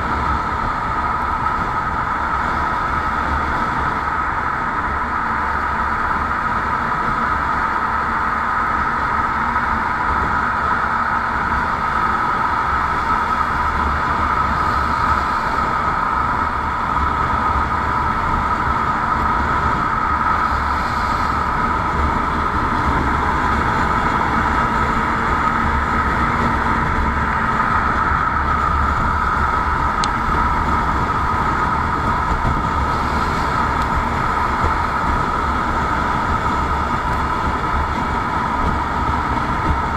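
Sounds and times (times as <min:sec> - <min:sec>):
wind noise: 0:00.0 - 0:39.9.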